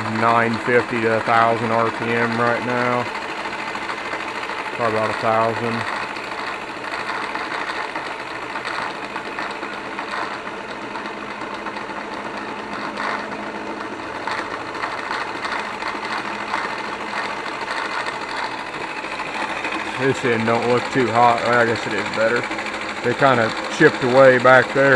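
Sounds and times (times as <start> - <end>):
low machine hum: 0.0 - 24.9
milling machine cutting: 0.0 - 24.9.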